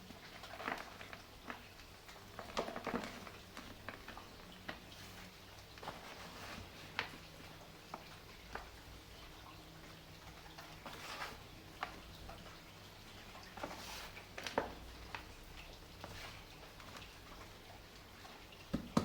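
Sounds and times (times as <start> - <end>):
faint steady rain: 0.0 - 19.0.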